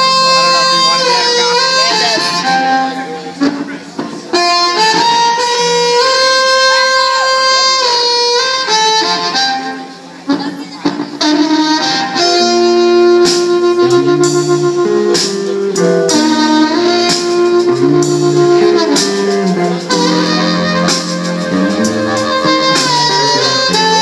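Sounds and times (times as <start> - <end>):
amplified harmonica: 0.0 - 24.0
blues band playing: 0.0 - 24.0.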